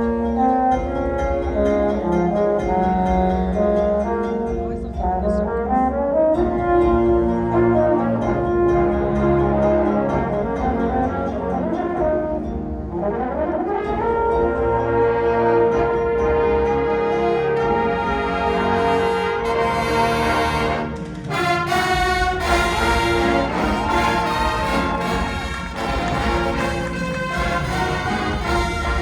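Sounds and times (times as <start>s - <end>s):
percussion beat: 0.0s - 11.3s, 15.7s - 29.0s
brass and woodwinds playing chords: 0.0s - 29.0s.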